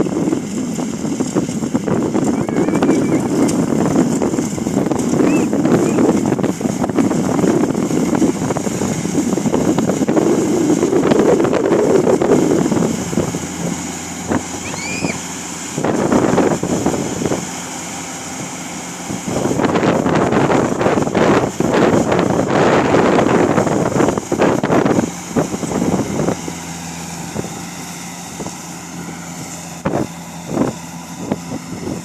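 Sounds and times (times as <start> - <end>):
cutting machine rumbling: 0.0 - 32.0.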